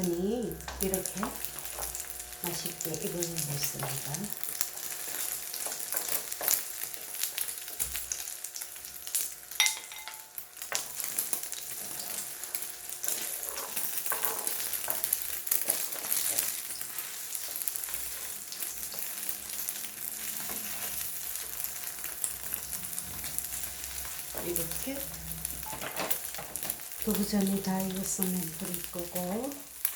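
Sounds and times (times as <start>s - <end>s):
pancakes sizzling in oil: 0.0s - 29.9s.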